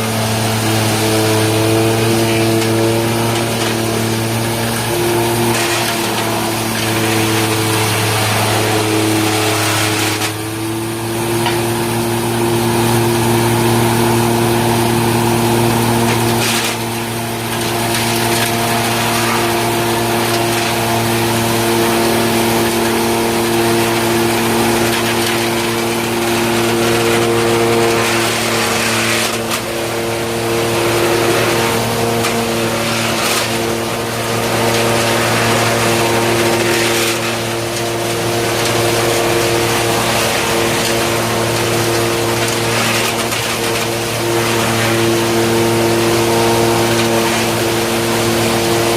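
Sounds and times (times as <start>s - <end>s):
wood chipper running: 0.0s - 48.9s.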